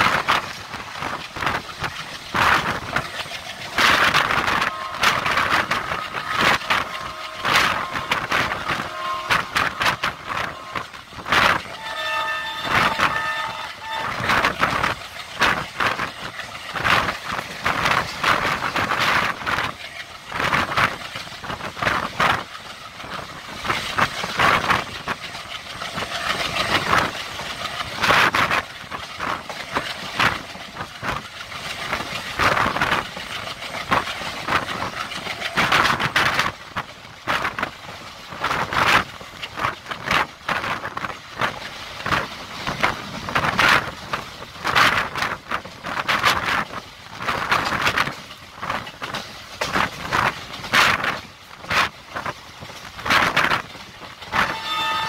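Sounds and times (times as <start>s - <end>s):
train wheel and track noise: 0.0s - 55.0s.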